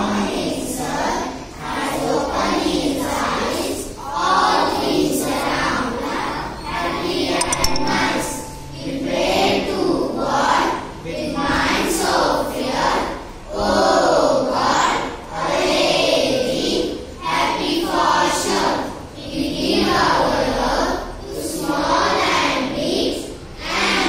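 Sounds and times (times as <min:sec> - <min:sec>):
children chanting in unison: 0:00.0 - 0:07.4, 0:08.7 - 0:24.0.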